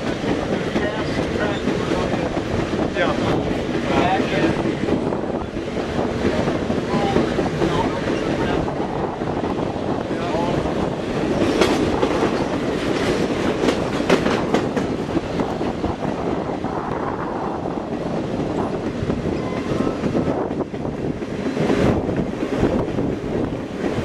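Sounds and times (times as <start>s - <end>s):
sharp clacks of train wheels: 0.0s - 17.0s, 17.7s - 24.0s
train wheels rumbling on rails: 0.0s - 24.0s.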